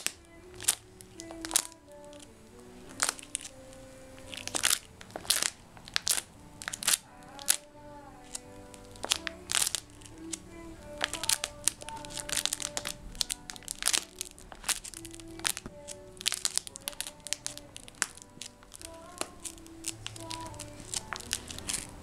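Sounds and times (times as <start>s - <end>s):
background music with held notes: 0.0s - 22.0s
plastic pages crinkling: 0.0s - 22.0s.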